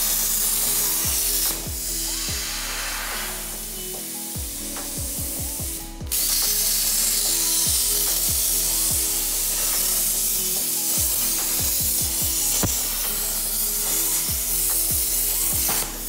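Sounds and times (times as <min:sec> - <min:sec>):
plasma arc hissing: 0:00.0 - 0:16.0.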